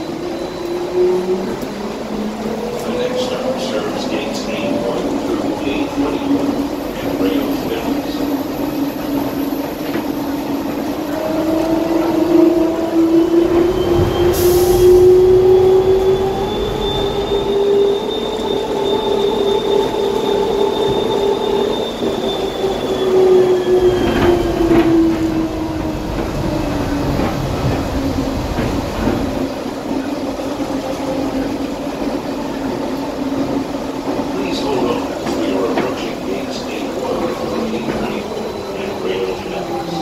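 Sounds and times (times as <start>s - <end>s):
train rolling rumble: 0.0s - 40.0s.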